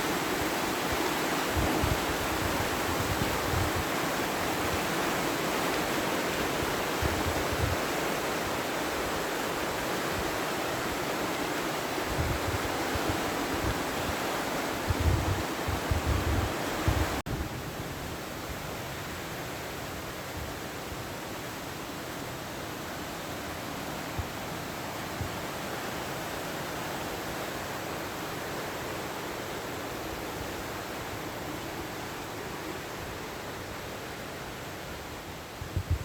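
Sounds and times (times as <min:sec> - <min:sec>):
mountain river rushing: 0:00.0 - 0:36.0.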